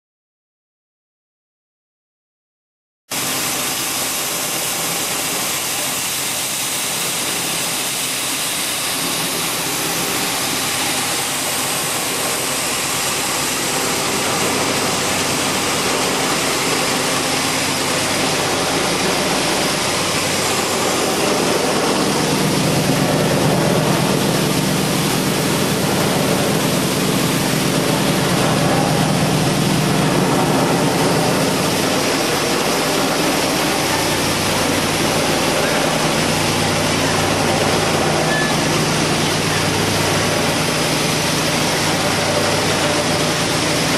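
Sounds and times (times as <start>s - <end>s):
powder mill machine rushing: 3.1s - 43.9s
low machine hum: 3.2s - 43.9s.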